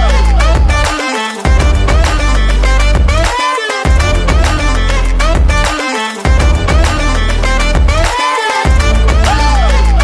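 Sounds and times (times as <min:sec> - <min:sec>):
upbeat music with heavy bass: 0:00.0 - 0:10.0.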